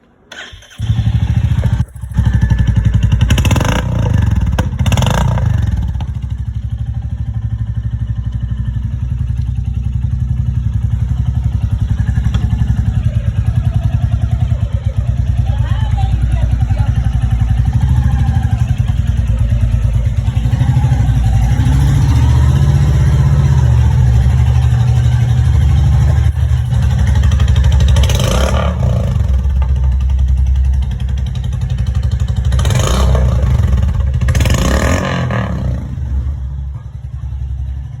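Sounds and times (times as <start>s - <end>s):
motorcycle exhaust thumping: 1.2s - 37.6s.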